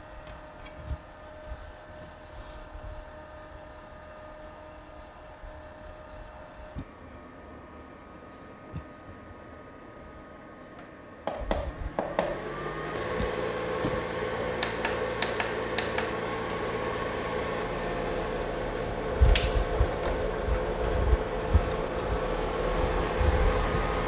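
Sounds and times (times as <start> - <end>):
fans humming and blowing air: 0.0 - 24.0.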